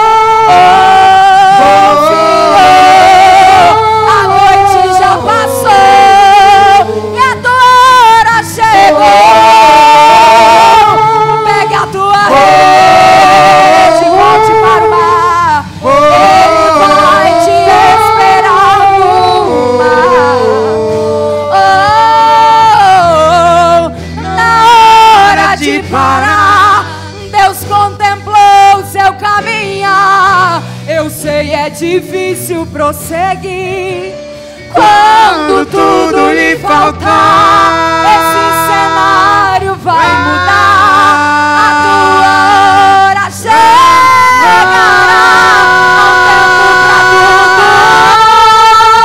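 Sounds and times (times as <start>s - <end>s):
instrumental accompaniment: 0.0s - 49.0s
person singing with vibrato: 0.0s - 49.0s
sustained low bass notes: 0.2s - 28.4s, 29.0s - 48.8s.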